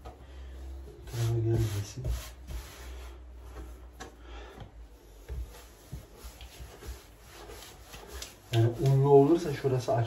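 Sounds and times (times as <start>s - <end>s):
hands rubbing and scraping dough: 0.6s - 4.0s, 4.7s - 10.0s.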